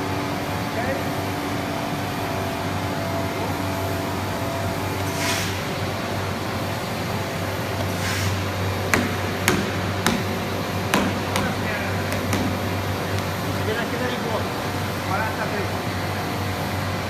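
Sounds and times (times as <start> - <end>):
machine mechanical hum: 0.0 - 17.0.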